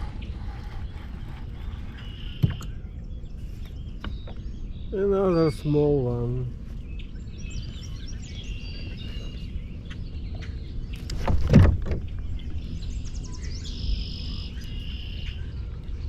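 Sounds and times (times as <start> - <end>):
birds chirping and singing: 0.0 - 16.0
water: 0.0 - 16.0
wind rumble: 0.0 - 16.0.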